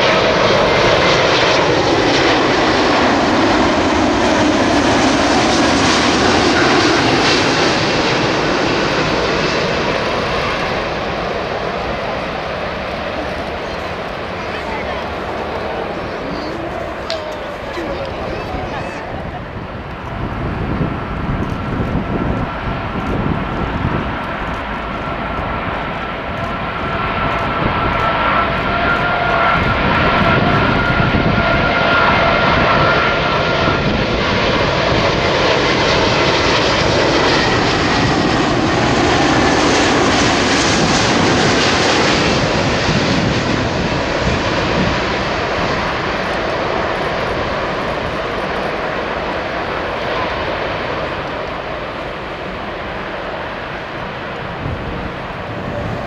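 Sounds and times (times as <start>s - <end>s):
broad rush of airliner: 0.0s - 56.0s
jet engine whine: 0.0s - 56.0s.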